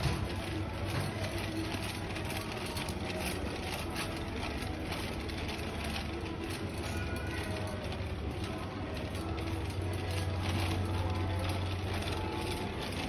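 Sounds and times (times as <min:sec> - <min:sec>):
shopping cart wheels rumbling: 0:00.0 - 0:13.0
wire basket rattling: 0:00.0 - 0:13.0.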